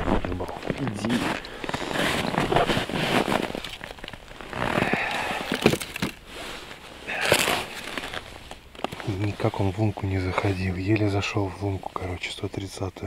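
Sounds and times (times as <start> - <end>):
clothing and snow rustling: 0.0 - 5.4, 6.2 - 12.4.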